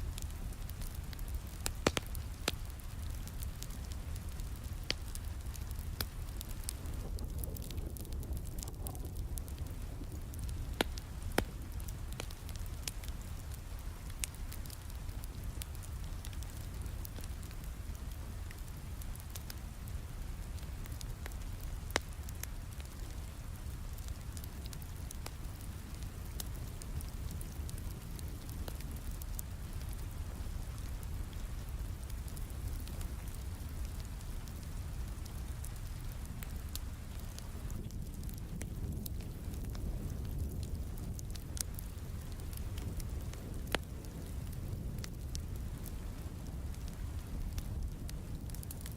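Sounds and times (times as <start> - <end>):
fire popping: 0.0 - 48.9
steady rain: 0.0 - 48.9
wood fire crackling: 0.0 - 48.9.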